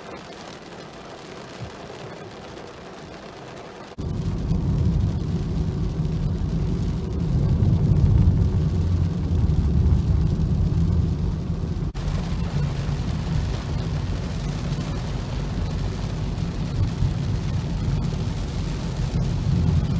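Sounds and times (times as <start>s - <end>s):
car engine and tyres rumbling: 0.0s - 19.9s.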